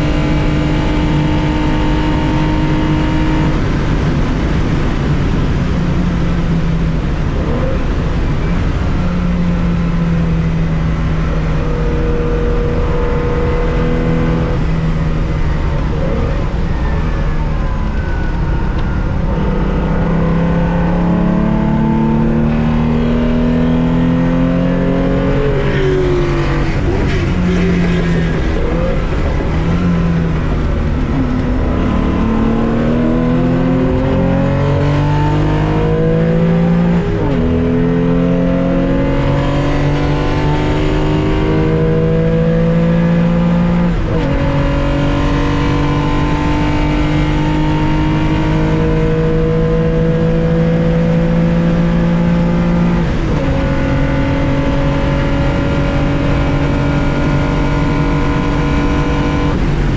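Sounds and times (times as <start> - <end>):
car engine at racing revs: 0.0 - 59.9.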